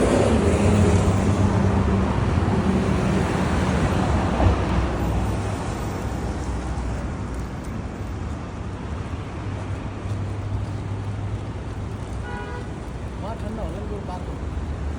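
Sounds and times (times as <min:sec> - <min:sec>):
traffic noise: 0:00.0 - 0:14.9.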